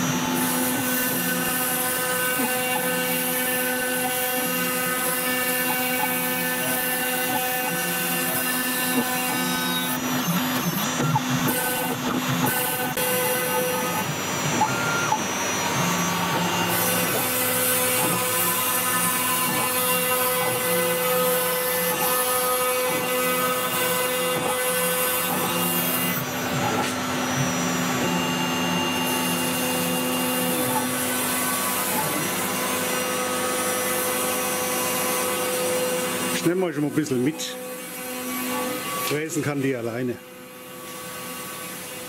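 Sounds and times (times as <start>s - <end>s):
dust extraction vacuum running: 0.0s - 42.0s
router spindle milling board: 0.0s - 42.0s.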